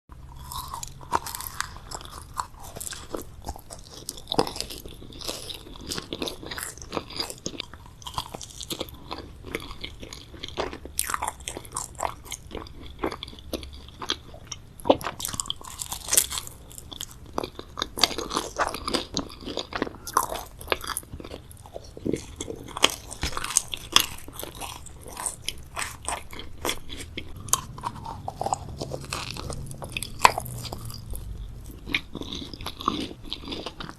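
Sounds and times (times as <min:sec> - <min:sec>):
person chewing crunchy food: 0:00.1 - 0:33.9.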